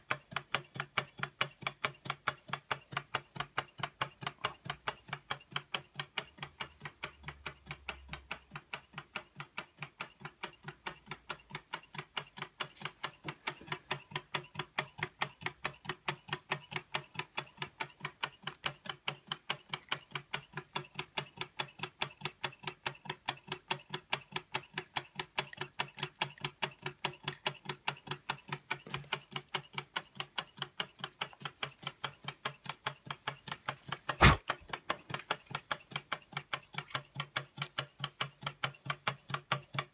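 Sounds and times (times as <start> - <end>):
engine mechanism clicking: 0.0 - 39.9.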